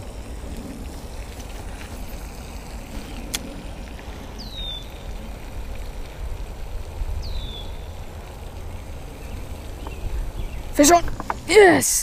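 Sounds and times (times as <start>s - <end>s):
wind rumble on microphone: 0.0s - 11.6s.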